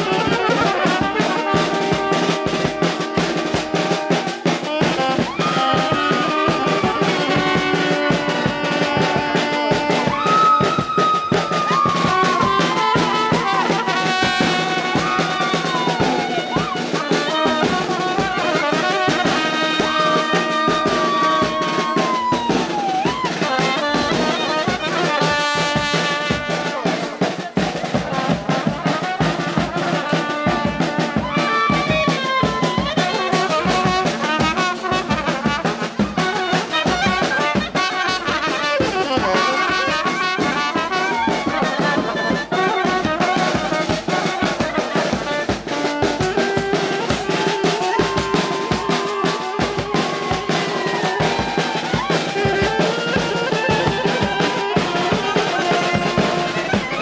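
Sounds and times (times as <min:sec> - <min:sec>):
steady drum beat: 0:00.0 - 0:57.0
trumpets and trombones melody: 0:00.0 - 0:57.0.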